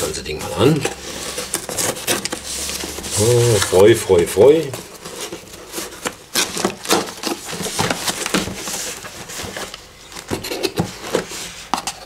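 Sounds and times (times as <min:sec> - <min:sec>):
cardboard and tape scratching: 0:00.0 - 0:12.0.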